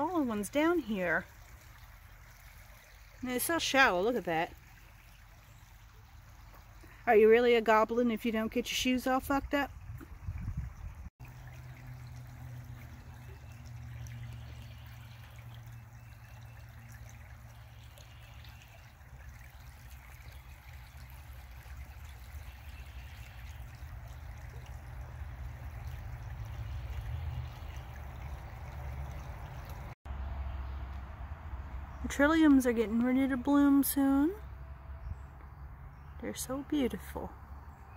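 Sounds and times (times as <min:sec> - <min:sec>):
creek trickling over rocks: 0:00.0 - 0:34.5.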